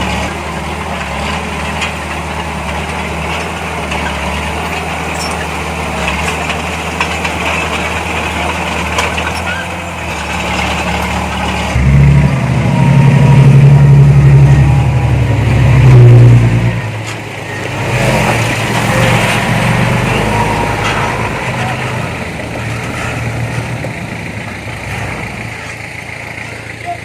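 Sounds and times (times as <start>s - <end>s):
diesel engine working hard: 0.0s - 27.0s.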